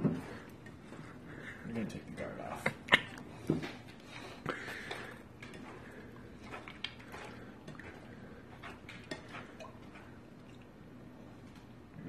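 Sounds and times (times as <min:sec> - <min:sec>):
hands mixing raw meat: 0:00.0 - 0:11.9.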